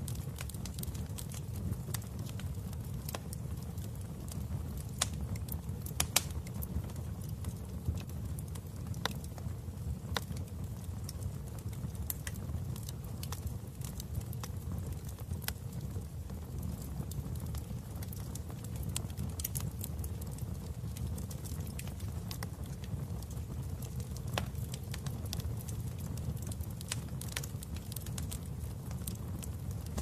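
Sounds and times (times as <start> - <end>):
fire pops and snaps: 0.0 - 30.0
wood fire crackling: 0.0 - 30.0.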